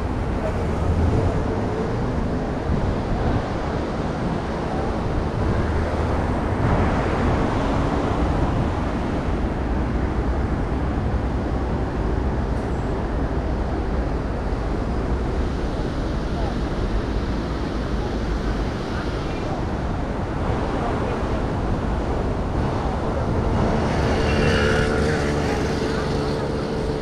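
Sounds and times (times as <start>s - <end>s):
road traffic noise: 0.0s - 27.0s.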